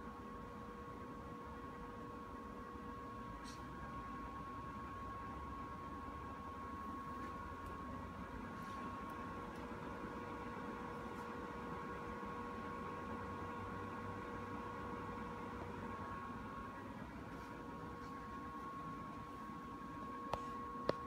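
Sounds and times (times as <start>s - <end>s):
curing lamp electrical hum: 0.0s - 21.0s.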